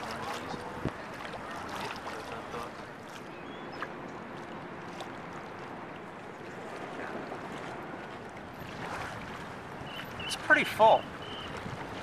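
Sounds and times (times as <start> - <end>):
water lapping and splashing: 0.0 - 12.0
wind: 0.0 - 12.0.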